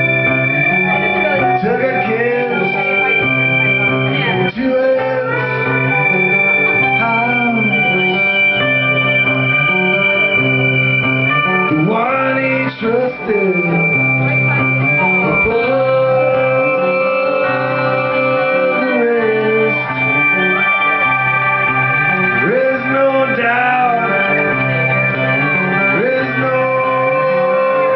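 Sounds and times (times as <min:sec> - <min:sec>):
rock band playing live: 0:00.0 - 0:27.9.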